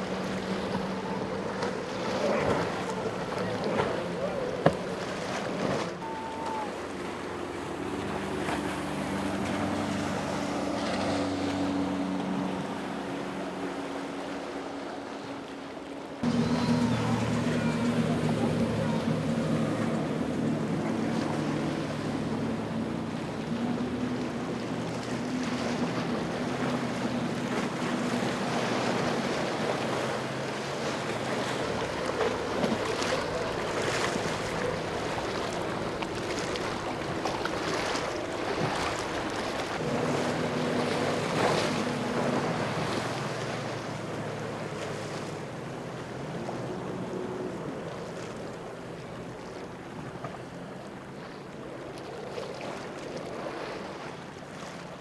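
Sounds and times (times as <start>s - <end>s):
boat engines running: 0.0s - 55.0s
waves splashing against hulls: 0.0s - 55.0s.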